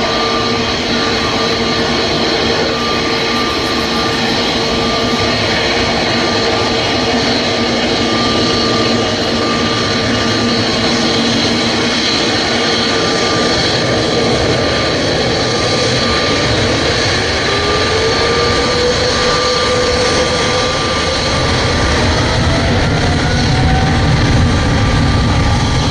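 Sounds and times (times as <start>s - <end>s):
jet engines roaring and whining: 0.0s - 25.9s.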